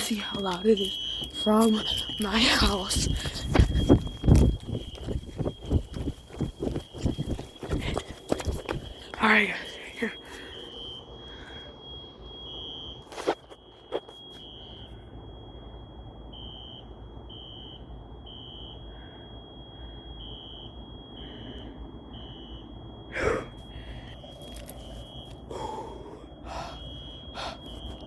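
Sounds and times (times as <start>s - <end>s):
fire alarm horn beeps: 0.0s - 28.0s
thin steady high tone: 0.0s - 28.0s.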